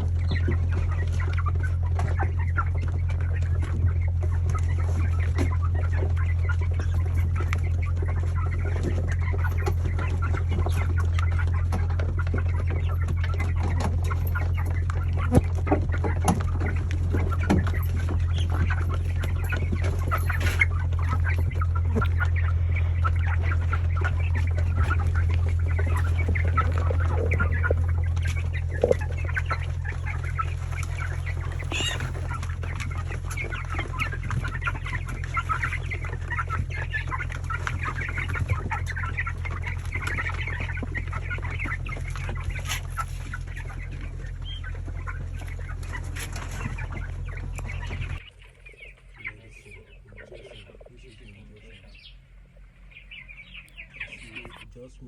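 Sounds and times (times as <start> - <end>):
chickens chirping and clucking: 0.0 - 55.0
steady low hum: 0.0 - 55.0.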